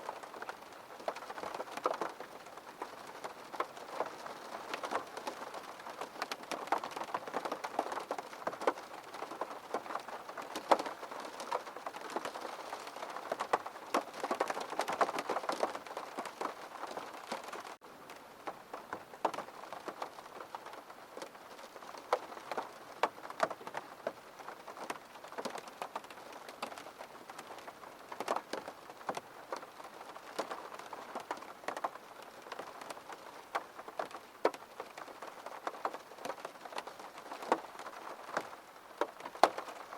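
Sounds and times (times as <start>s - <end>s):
rain pattering on window glass: 0.0s - 39.9s.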